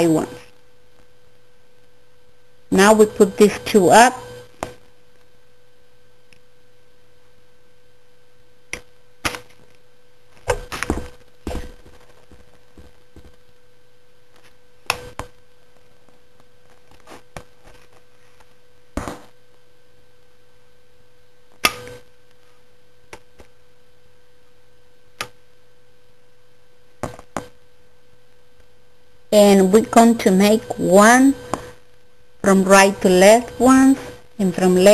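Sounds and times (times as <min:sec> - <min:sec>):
steady electrical hum: 0:00.0 - 0:34.9.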